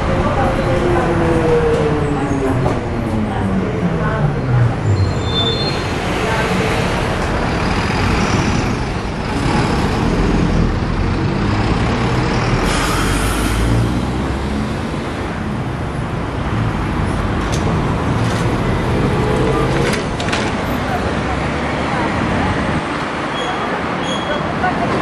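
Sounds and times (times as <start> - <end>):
street traffic: 0.0 - 25.0
trolleybus rumbling past: 0.0 - 25.0.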